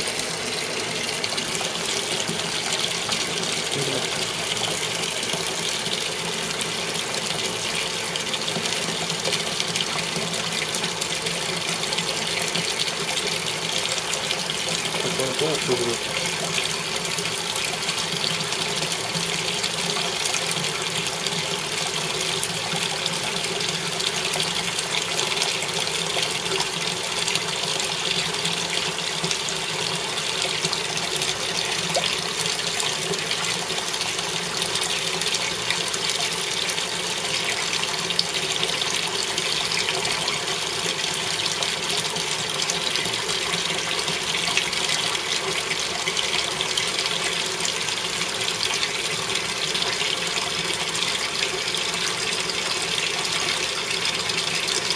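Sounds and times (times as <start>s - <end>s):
water gushing into washing machine: 0.0s - 54.9s.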